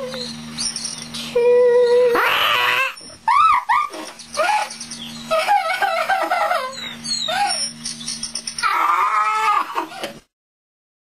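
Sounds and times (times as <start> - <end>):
low electrical hum: 0.0 - 10.3.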